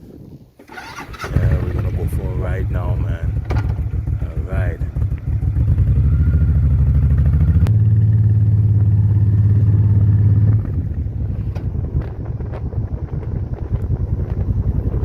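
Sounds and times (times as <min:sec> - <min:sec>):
motorcycle engine running: 0:00.6 - 0:15.0.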